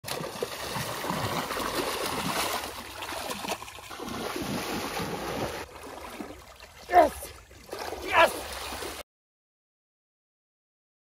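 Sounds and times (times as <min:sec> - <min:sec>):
muddy water splashing: 0:00.0 - 0:09.0.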